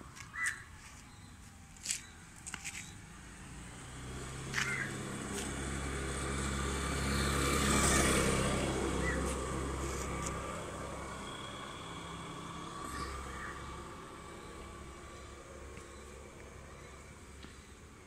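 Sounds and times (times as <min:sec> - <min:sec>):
vehicle engine hum and road noise: 0:00.0 - 0:18.0.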